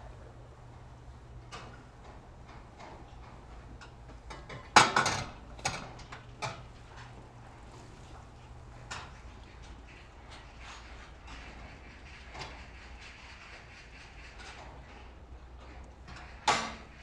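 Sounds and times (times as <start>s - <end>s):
small knocks and rustles: 1.4s - 17.0s.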